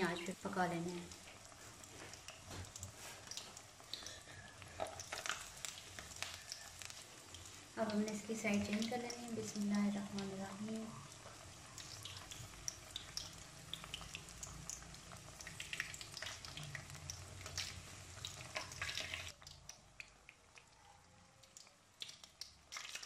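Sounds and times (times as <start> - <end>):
deep-frying sizzle with pops: 0.0 - 23.0.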